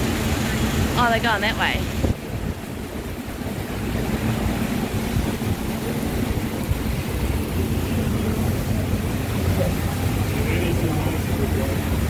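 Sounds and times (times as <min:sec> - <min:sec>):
heavy rain hiss: 0:00.0 - 0:12.0
tractor engines droning: 0:00.0 - 0:12.0.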